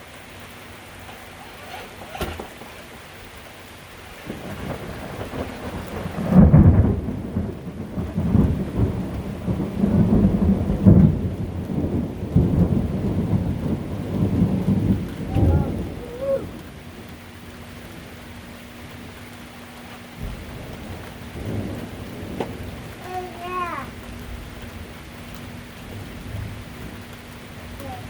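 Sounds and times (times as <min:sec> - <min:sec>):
steady rain: 0:00.0 - 0:28.0
thunder rumbling: 0:00.7 - 0:28.0.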